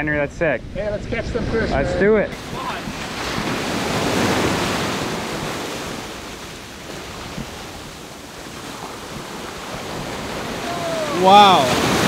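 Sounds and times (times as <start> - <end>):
ocean wave breaking: 2.2 - 12.0.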